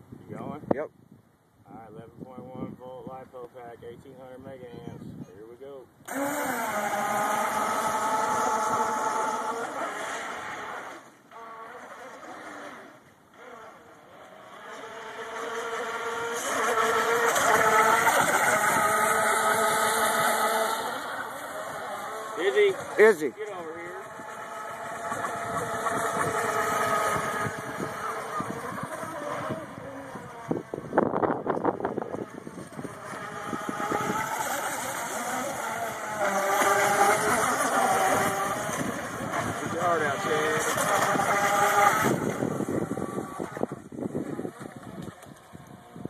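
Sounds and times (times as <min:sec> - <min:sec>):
electric boat motors whining: 0:06.0 - 0:46.0.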